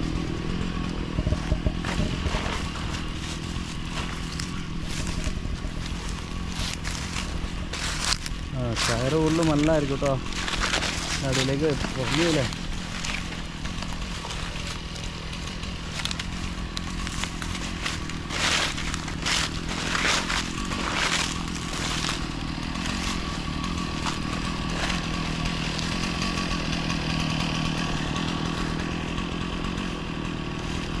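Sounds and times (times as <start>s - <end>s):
chainsaw engine running: 0.0s - 31.0s.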